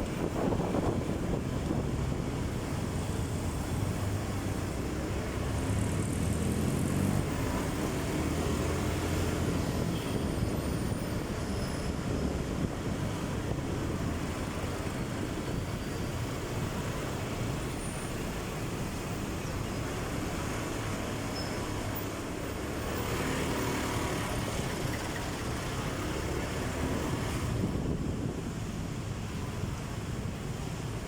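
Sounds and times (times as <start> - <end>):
vehicle road noise: 0.0 - 31.0.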